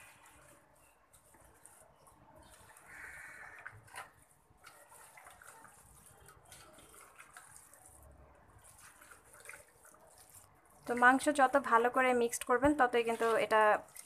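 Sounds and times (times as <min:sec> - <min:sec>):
hand kneading raw meat: 0:00.0 - 0:11.5.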